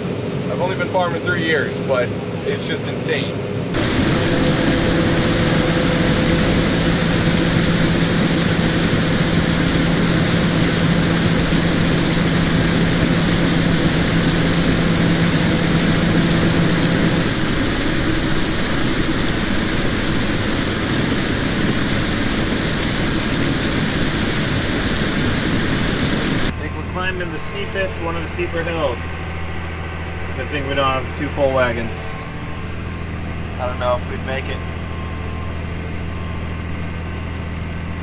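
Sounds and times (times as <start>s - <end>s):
machine hum with high whine: 0.0s - 38.0s.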